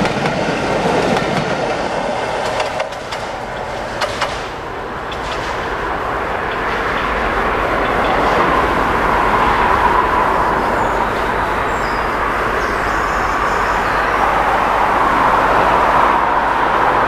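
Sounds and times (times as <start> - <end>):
diesel locomotive engine din: 0.0 - 17.0.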